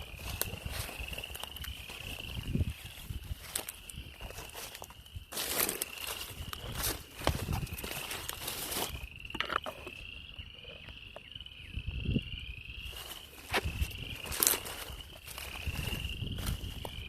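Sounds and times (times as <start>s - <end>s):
frogs trilling: 0.0s - 17.0s.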